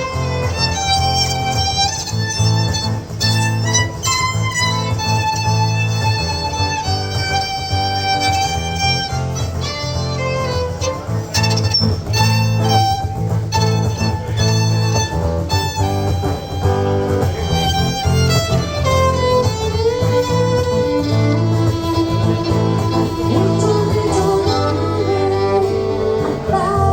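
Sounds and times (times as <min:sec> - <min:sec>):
backing track with bass line: 0:00.0 - 0:26.9
violin melody: 0:00.0 - 0:26.9.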